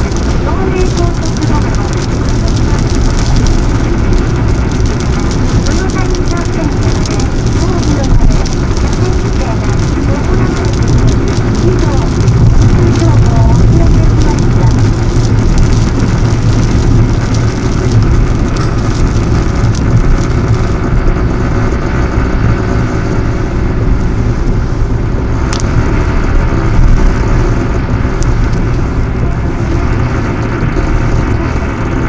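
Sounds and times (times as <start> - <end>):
tyre and engine rumble: 0.0 - 32.0.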